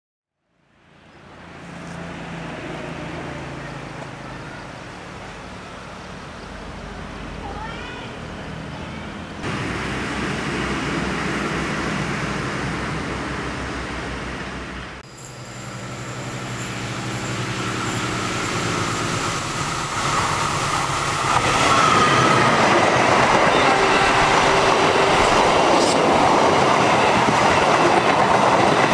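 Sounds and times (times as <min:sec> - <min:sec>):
diesel train running noise: 0:00.8 - 0:28.9.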